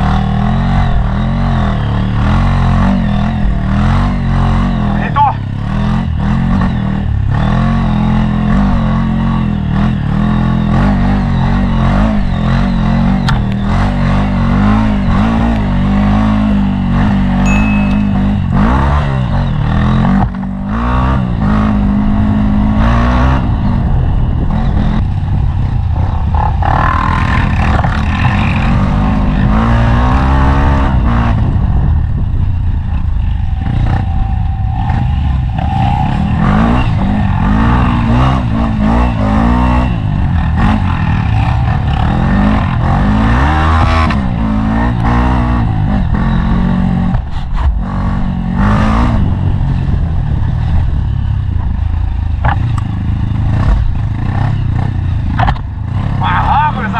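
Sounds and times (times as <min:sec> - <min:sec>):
dirt bike engine revving: 0:00.0 - 0:51.0, 0:52.4 - 0:56.9.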